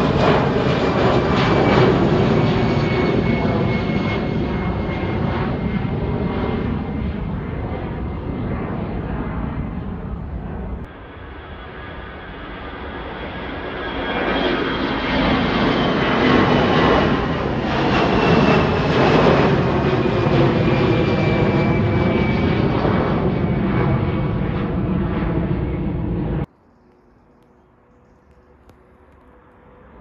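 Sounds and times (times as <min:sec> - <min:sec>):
airliner engines passing at takeoff: 0:00.0 - 0:30.0.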